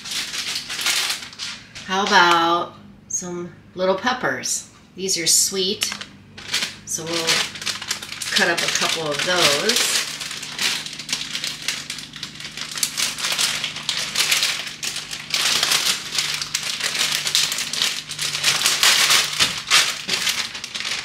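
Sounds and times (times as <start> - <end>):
plastic bag crinkling: 0.0 - 2.4, 5.8 - 21.0.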